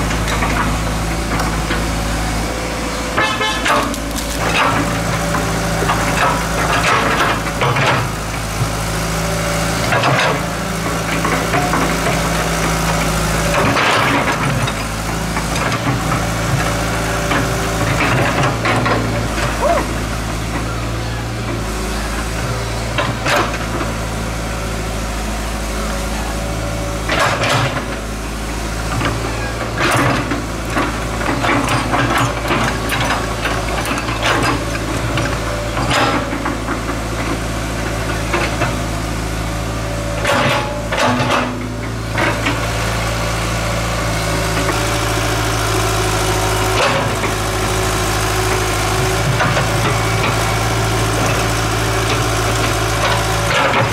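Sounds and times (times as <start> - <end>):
excavator bucket scraping and clanking: 0.0 - 8.9, 9.8 - 19.6, 26.6 - 28.1, 28.8 - 53.9
diesel engine running: 0.0 - 53.9.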